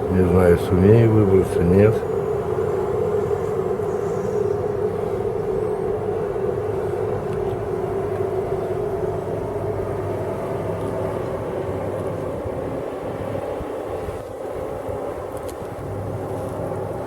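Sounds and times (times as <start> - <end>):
droning hum: 0.0 - 17.0
wind rumbling on microphone: 0.0 - 17.0.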